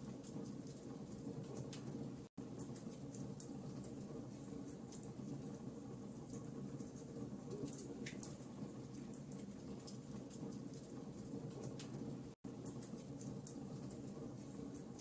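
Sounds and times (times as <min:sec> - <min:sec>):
fire crackles and pops: 0:00.0 - 0:15.0
wood fire burning: 0:00.0 - 0:15.0.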